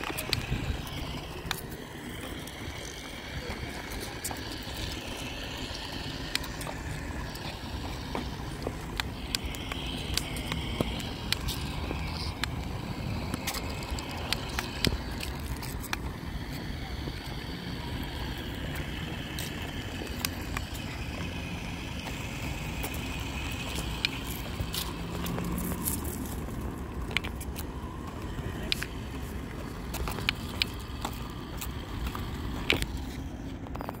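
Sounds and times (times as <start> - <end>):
sharp clicks and ticks: 0.0 - 34.0
small electric motor whining: 0.0 - 34.0.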